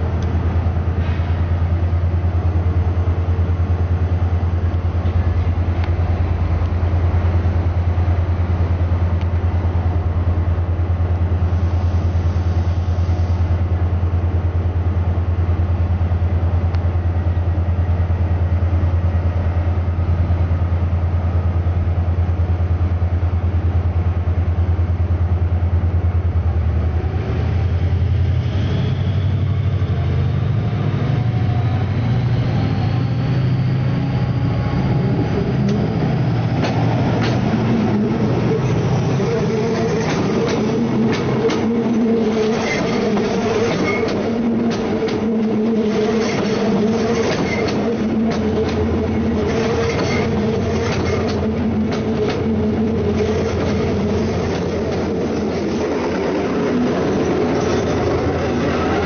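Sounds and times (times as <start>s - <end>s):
diesel train engine idling: 0.0s - 28.4s, 29.2s - 59.0s.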